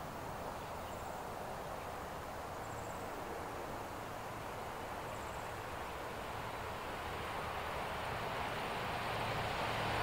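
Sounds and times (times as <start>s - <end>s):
rushing outdoor background noise: 0.0s - 10.0s.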